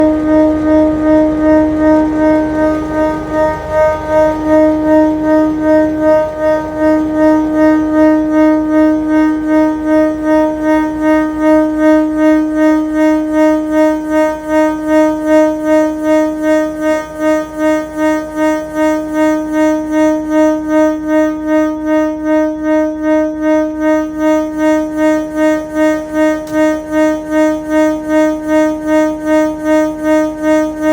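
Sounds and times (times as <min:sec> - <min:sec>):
locomotive pulsing singing tone: 0:00.0 - 0:30.9.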